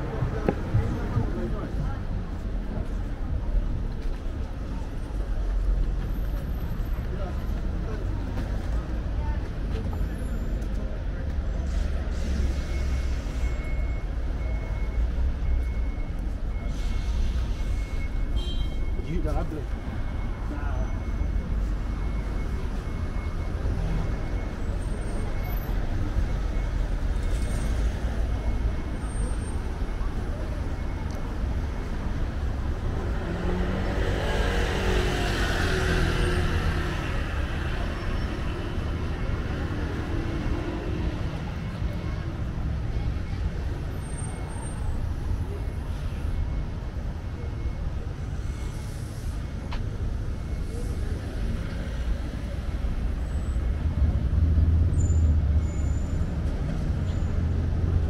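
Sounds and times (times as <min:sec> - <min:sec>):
traffic engines rumbling: 0:00.0 - 0:58.0.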